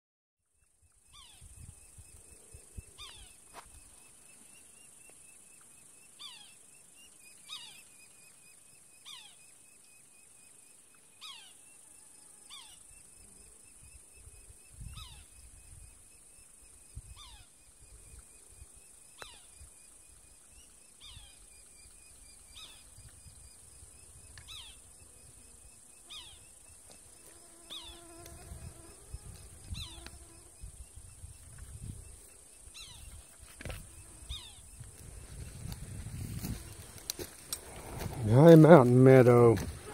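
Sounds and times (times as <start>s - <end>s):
insects buzzing: 0.6s - 39.9s.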